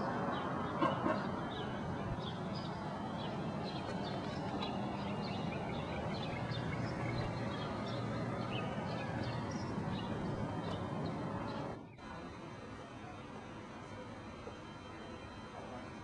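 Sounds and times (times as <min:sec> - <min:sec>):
outdoor background hum: 0:00.0 - 0:16.0
small birds chirping: 0:00.0 - 0:16.0.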